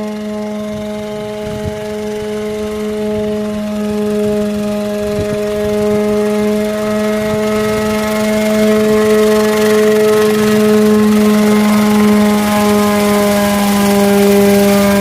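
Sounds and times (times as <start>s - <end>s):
small engine droning whine: 0.0s - 15.0s.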